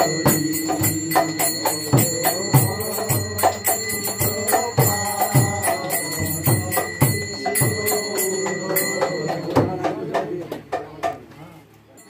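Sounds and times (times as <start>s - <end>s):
music with steady drum beat: 0.0s - 11.3s.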